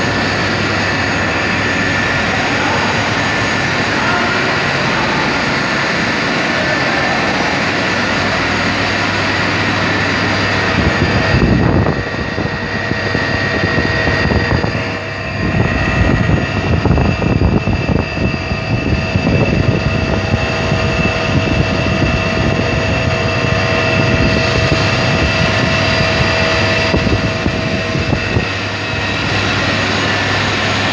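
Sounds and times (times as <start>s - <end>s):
milling machine spindle whine: 0.0s - 30.9s.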